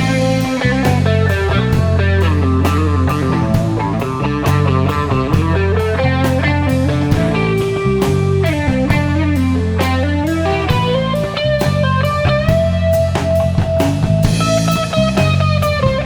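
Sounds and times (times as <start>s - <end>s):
drum kit beat: 0.0s - 16.0s
electric guitar bending notes: 0.0s - 16.0s.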